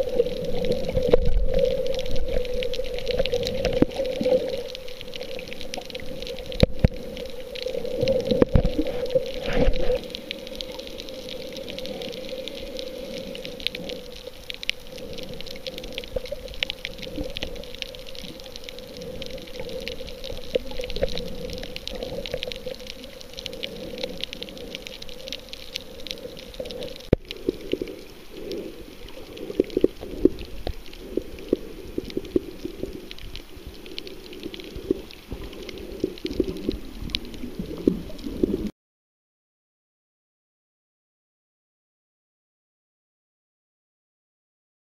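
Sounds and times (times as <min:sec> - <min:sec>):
muffled underwater water movement: 0:00.0 - 0:38.7.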